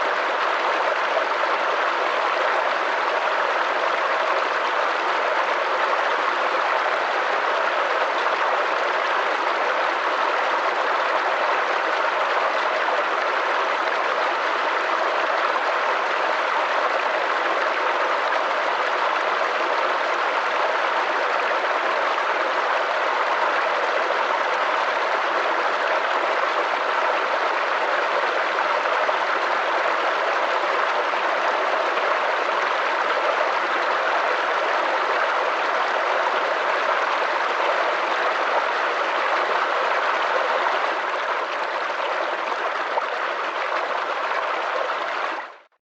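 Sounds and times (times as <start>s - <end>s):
babbling brook: 0.0s - 45.7s.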